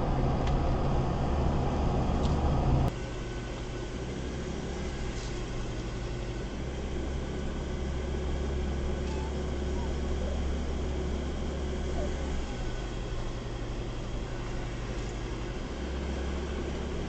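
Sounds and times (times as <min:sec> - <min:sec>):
car engine and road noise: 0:00.0 - 0:17.0
low engine hum: 0:00.0 - 0:17.0.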